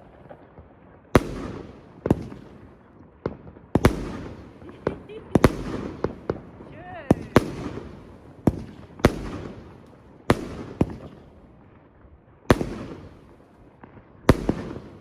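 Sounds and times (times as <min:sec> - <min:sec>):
fireworks banging with echoing rumble: 0:00.0 - 0:15.0.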